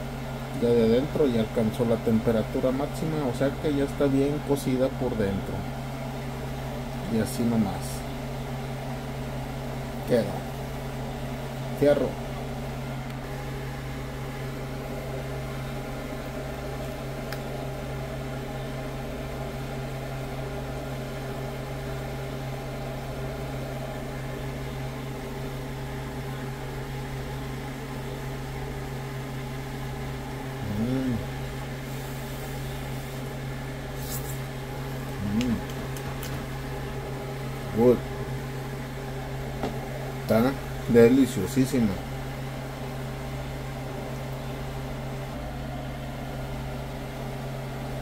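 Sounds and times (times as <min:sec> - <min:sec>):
electric fan motor hum: 0:00.0 - 0:48.0.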